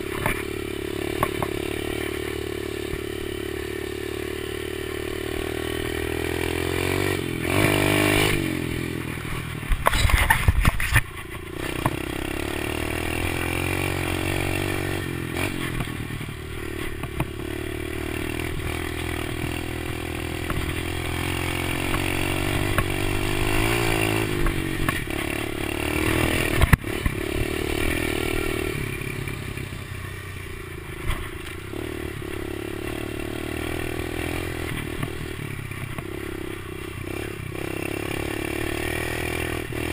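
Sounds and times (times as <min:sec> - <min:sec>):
dirt bike engine: 0:00.0 - 0:39.9.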